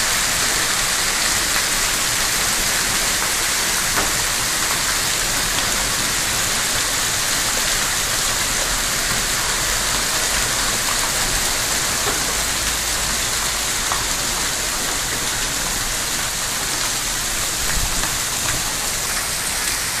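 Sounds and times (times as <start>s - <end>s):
heavy hail and rain: 0.0s - 20.0s.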